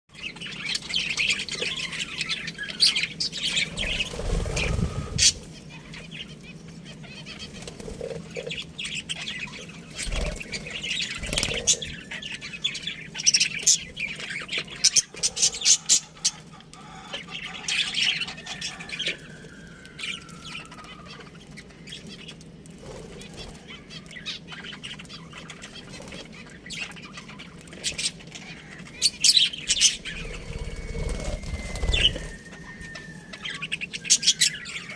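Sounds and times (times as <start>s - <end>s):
budgies chirping and chattering: 0.1s - 34.9s.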